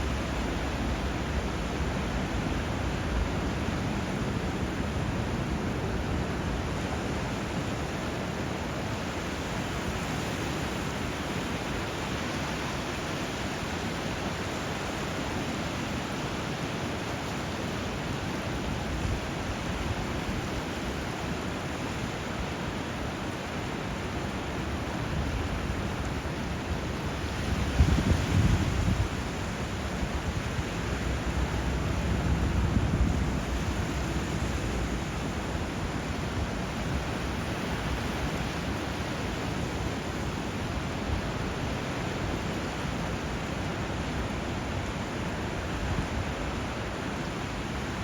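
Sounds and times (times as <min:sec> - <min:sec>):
flowing water rushing: 0:00.0 - 0:48.0.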